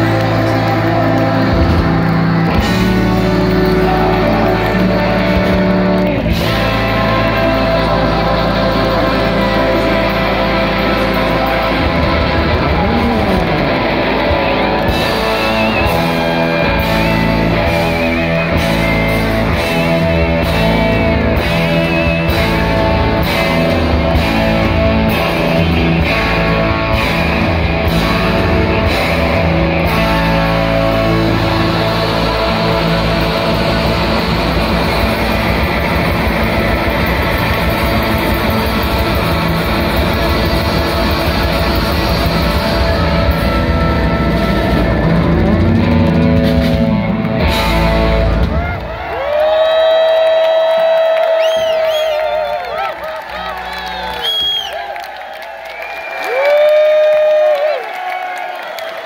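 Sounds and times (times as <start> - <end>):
bass guitar: 0.0 - 54.8
drums: 0.0 - 59.0
electric guitars: 0.0 - 59.0.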